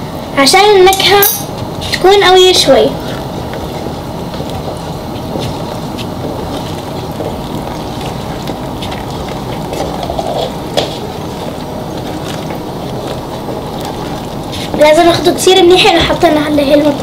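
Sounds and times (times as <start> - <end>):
pot boiling and bubbling: 0.0 - 17.0.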